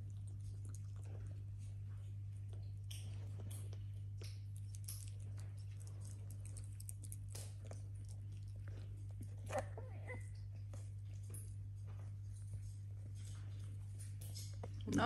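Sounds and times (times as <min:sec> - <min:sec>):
animal chewing and licking food: 0:00.0 - 0:15.0
steady low hum: 0:00.0 - 0:15.0.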